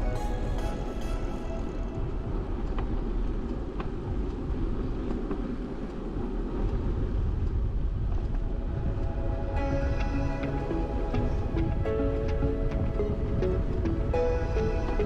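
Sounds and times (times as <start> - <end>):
wind noise: 0.0 - 15.0
bicycle road rumble: 1.8 - 15.0
faint ticks: 1.9 - 15.0.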